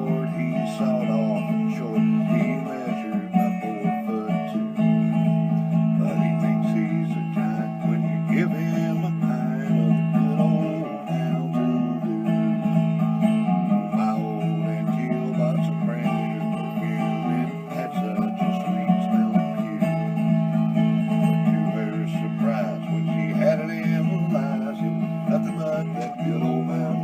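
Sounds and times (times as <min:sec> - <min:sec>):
strummed acoustic guitar music: 0:00.0 - 0:27.0.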